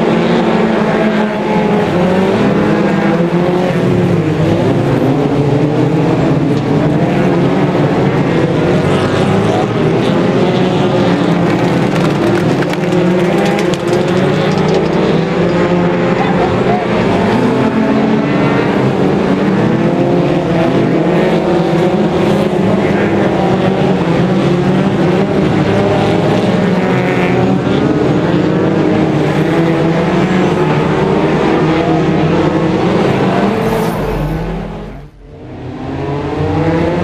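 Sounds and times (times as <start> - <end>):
racing car engines: 0.0 - 37.0.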